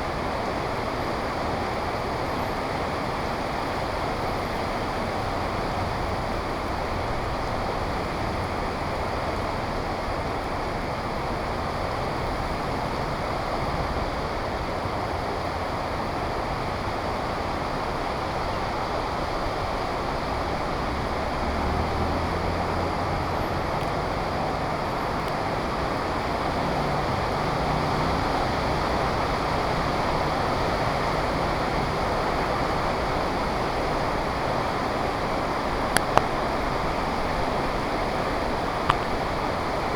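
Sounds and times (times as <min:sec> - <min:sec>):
heavy rain pouring: 0:00.0 - 0:39.9
street traffic: 0:00.0 - 0:39.9.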